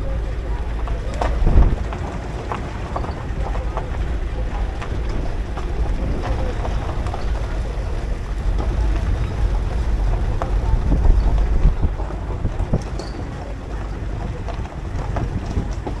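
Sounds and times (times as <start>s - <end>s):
light rattles: 0.0s - 16.0s
vehicle rumble: 0.0s - 16.0s
wind buffeting microphone: 0.0s - 16.0s.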